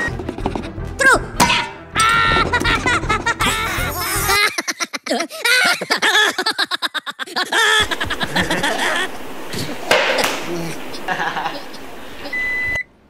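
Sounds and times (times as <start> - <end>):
person laughing: 2.0 - 12.5.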